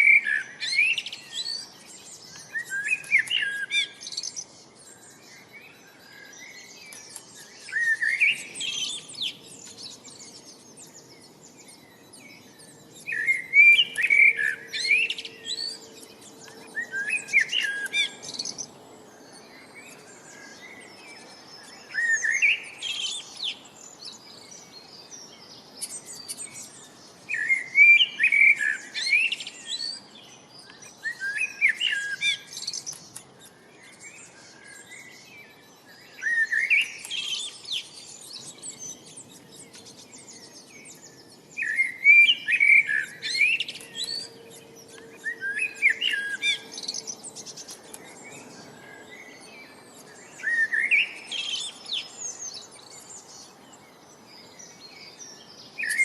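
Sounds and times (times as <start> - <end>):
faint bird chirping: 0.0 - 56.0
songbird chirps and trills: 0.0 - 56.0.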